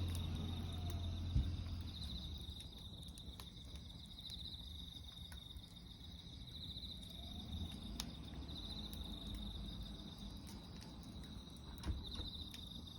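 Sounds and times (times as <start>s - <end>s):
bonfire burning: 0.0s - 12.9s
fire crackling pops: 0.0s - 12.9s
high-pitched insect trill: 0.0s - 12.9s.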